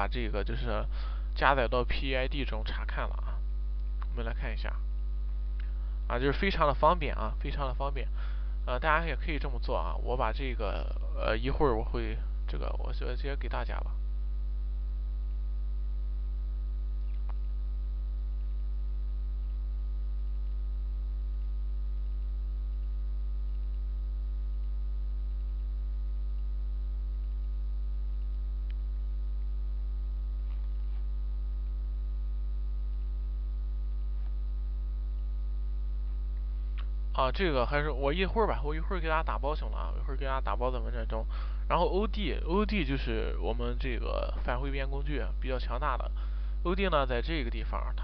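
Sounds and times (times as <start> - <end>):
electrical mains hum: 0.0 - 48.0.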